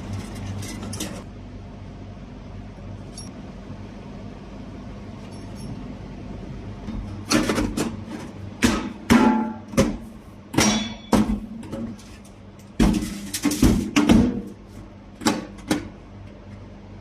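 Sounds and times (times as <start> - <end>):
dehydrator fan humming: 0.0 - 17.0.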